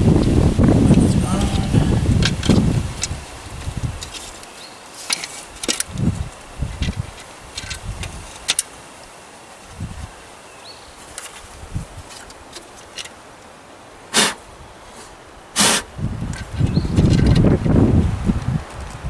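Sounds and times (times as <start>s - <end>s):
faint steady hiss: 0.0s - 16.6s.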